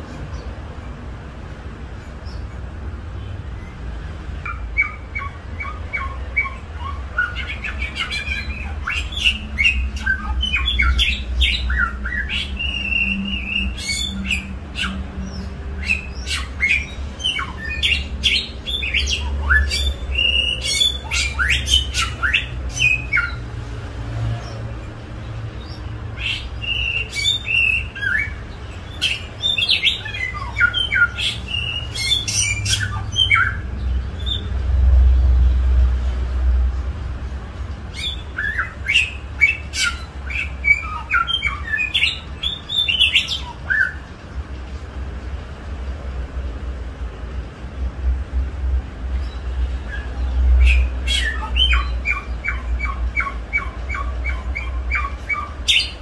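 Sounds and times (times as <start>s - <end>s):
songbird singing: 0.0s - 45.6s, 46.2s - 56.0s.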